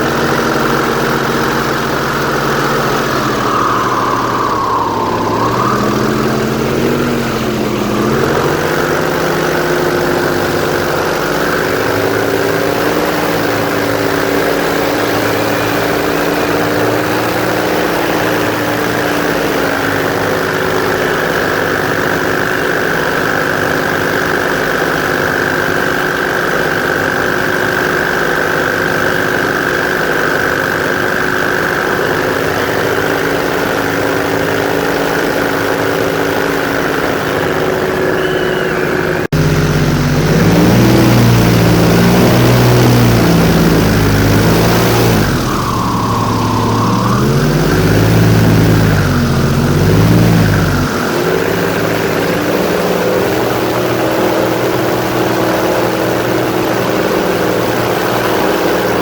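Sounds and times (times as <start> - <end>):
airboat engine and propeller: 0.0 - 59.0.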